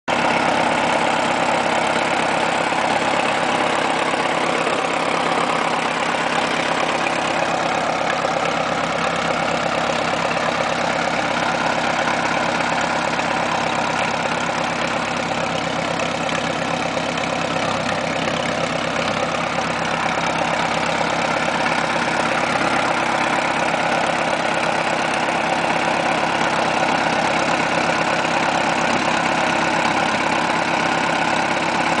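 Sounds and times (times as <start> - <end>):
tractor engine running steadily: 0.1 - 32.0.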